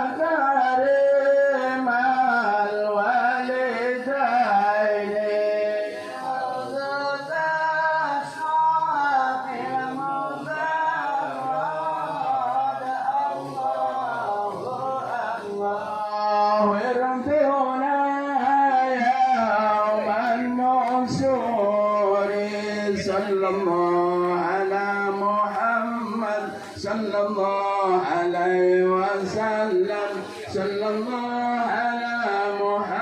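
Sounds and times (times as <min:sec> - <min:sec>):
man singing devotional song: 0:00.0 - 0:33.0.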